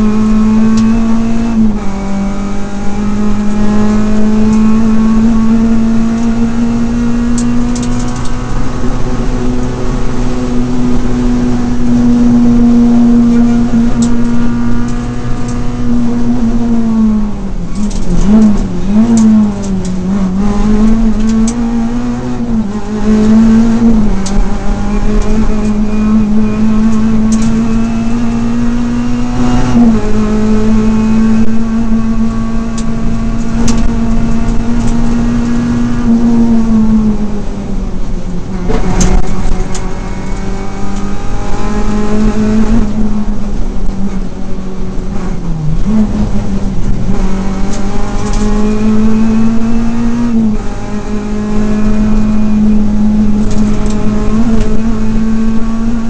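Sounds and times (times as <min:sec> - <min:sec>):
rally car engine at speed: 0:00.0 - 0:56.0.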